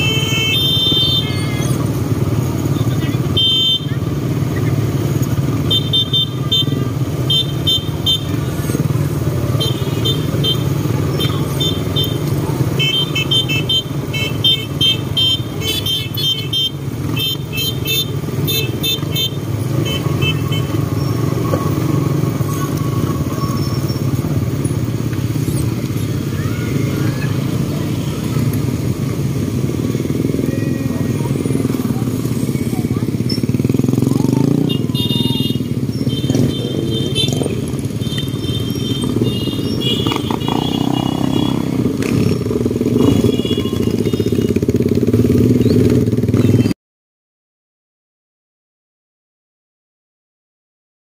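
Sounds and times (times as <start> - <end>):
motorcycle engines and road drone: 0.0 - 46.8.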